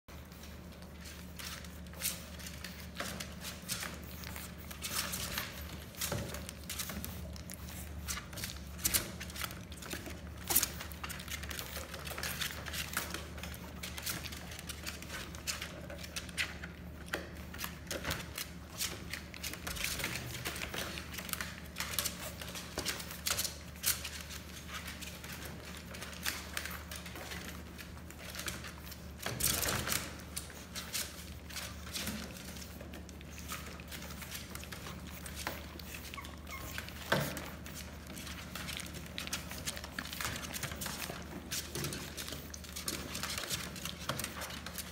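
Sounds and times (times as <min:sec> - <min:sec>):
puppies pattering in plastic pool: 0:00.0 - 0:44.9.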